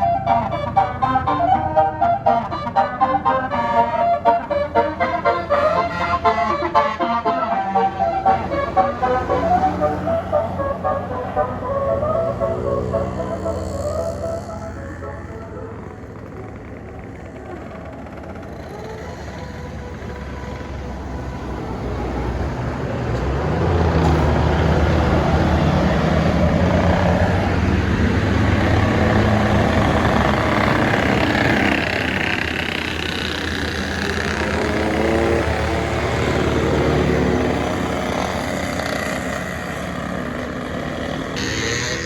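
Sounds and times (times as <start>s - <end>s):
bus engine running: 0.0s - 42.0s.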